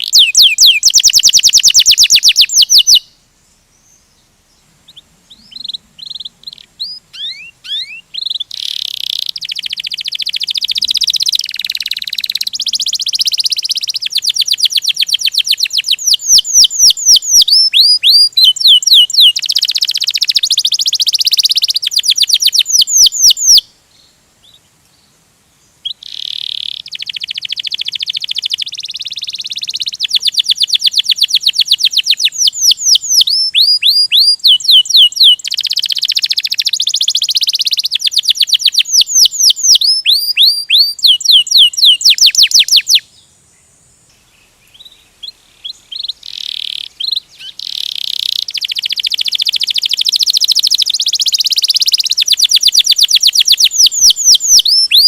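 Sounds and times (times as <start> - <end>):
canary singing trills: 0.0 - 25.1, 25.8 - 43.3, 44.1 - 55.0.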